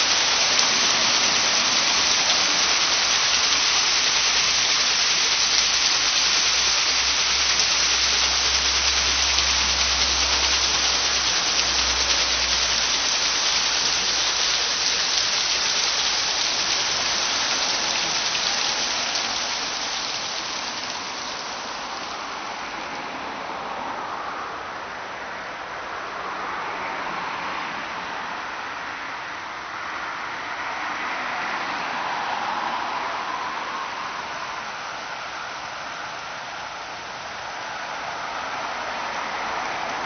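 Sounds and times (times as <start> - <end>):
water splashing off a waterwheel: 0.0 - 24.7, 28.6 - 40.0.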